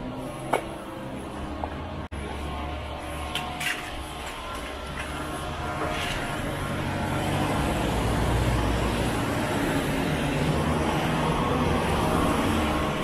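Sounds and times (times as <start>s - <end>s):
vehicle engine and tyres rumbling: 0.0s - 13.0s.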